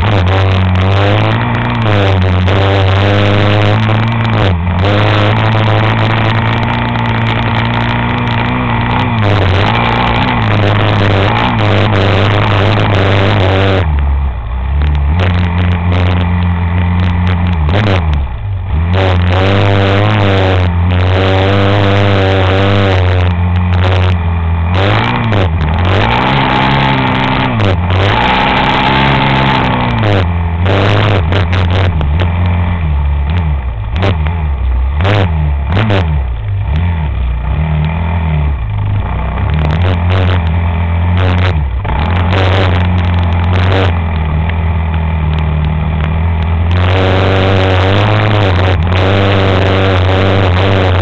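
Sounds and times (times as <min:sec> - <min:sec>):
engine revving: 0:00.0 - 0:51.0.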